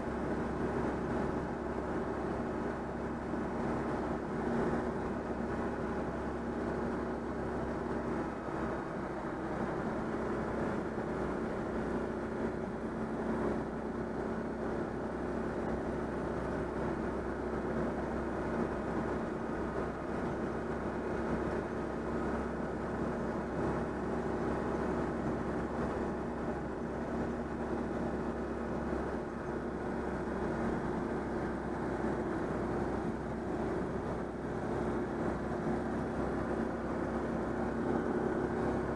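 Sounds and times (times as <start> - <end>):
car engine droning: 0.0 - 38.9
road and wind noise: 0.0 - 38.9.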